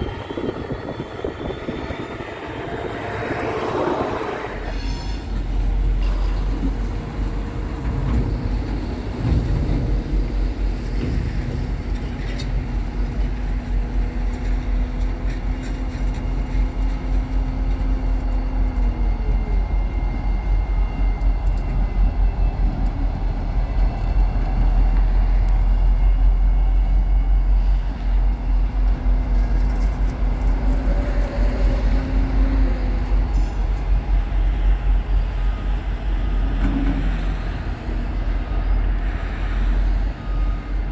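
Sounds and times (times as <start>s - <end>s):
diesel locomotive engine rumble: 0.0s - 40.9s
locomotive hum: 0.0s - 40.9s.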